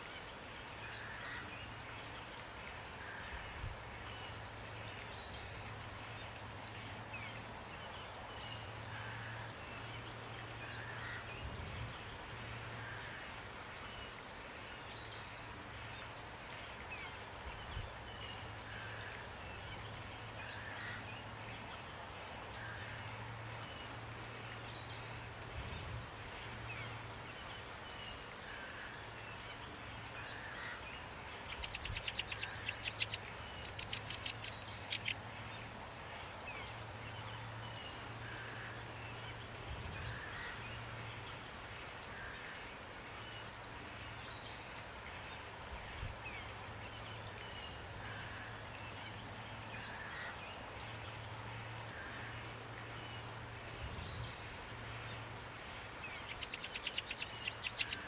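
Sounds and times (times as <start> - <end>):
rain hiss: 0.0 - 58.0
songbirds chirping: 0.0 - 58.0.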